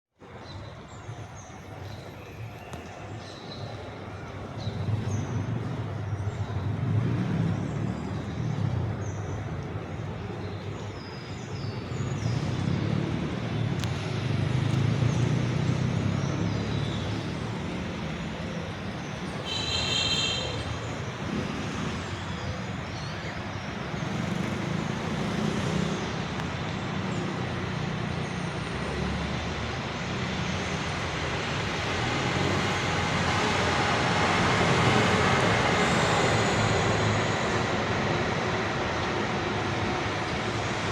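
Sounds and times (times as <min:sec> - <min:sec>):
road traffic rumble: 0:00.2 - 0:40.9.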